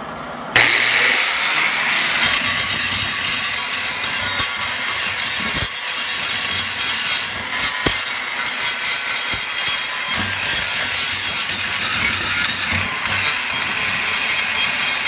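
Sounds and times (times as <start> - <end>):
angle grinder grinding steel: 0.6 - 15.0.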